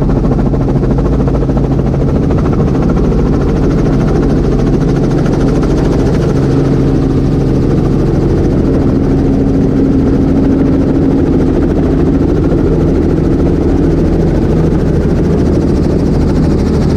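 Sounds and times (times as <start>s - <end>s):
helicopter engine and rotor drone: 0.0s - 16.9s.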